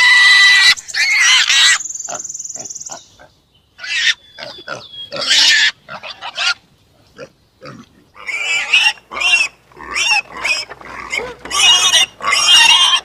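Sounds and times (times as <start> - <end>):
pigs grunting and squealing: 0.0 - 13.0.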